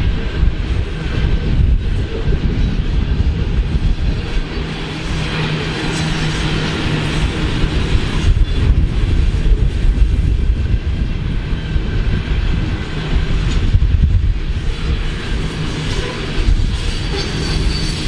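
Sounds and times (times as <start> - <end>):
train wheels rumbling on rail: 0.0 - 18.0
wind buffeting microphone: 0.0 - 18.0.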